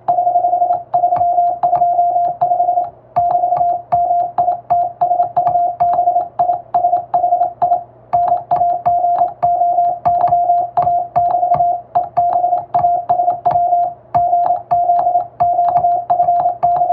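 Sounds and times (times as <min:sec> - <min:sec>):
morse code beeps: 0:00.0 - 0:16.9
telegraph key clicks: 0:03.2 - 0:16.9.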